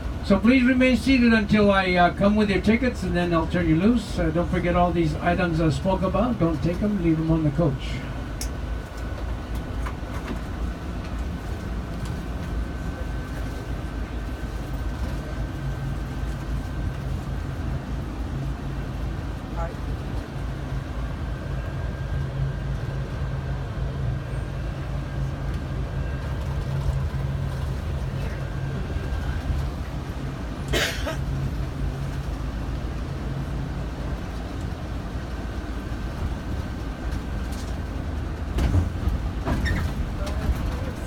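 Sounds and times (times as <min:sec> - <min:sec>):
coach engine humming: 0:00.0 - 0:41.0.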